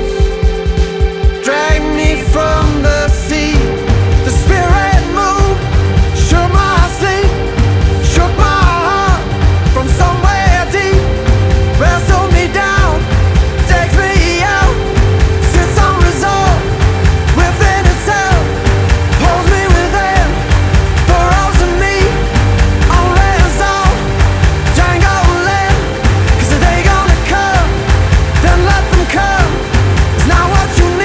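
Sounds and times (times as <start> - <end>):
instrumental rock music: 0.0 - 31.0.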